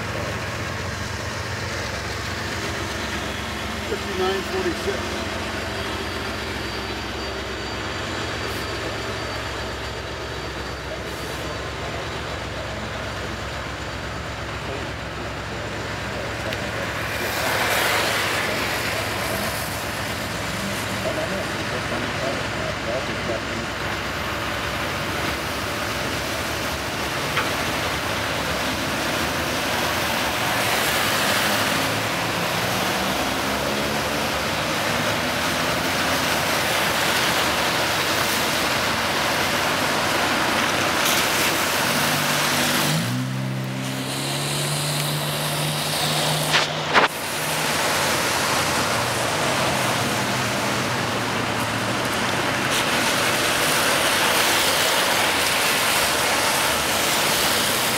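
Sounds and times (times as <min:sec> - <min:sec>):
train cars rumbling: 0:00.0 - 0:57.9
tyres on wet pavement: 0:00.0 - 0:57.9.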